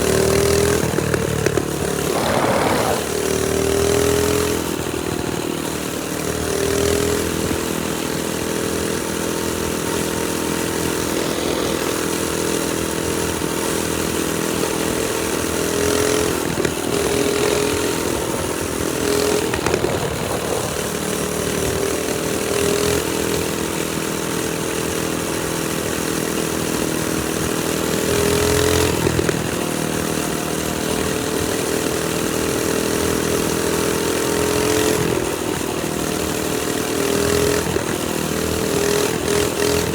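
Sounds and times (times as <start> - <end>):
minibike engine running: 0.0 - 39.9.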